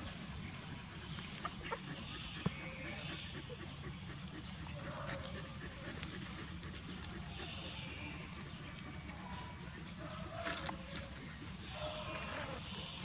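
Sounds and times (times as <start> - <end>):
puppies suckling clicks: 1.3 - 12.4.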